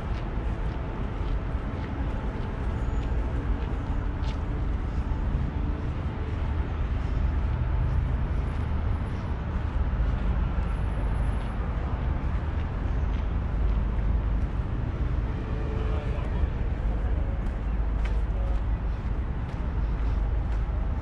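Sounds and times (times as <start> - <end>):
city traffic noise: 0.0 - 21.0.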